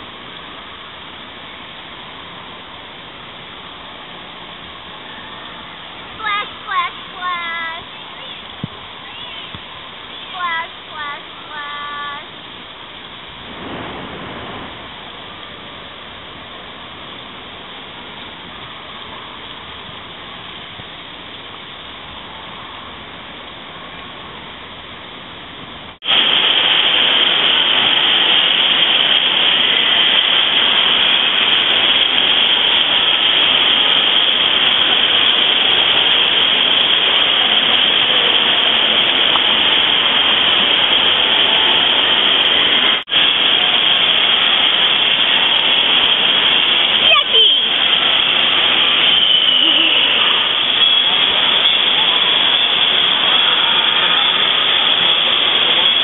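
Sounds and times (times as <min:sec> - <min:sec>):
water jets spraying: 0:00.0 - 0:56.0.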